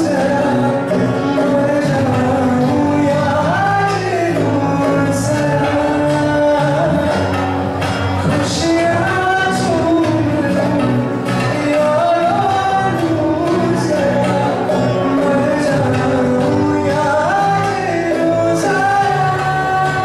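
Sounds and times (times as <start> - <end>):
acoustic guitar: 0.0 - 20.0
bass guitar: 0.0 - 20.0
man singing: 0.0 - 20.0
tabla: 0.0 - 20.0.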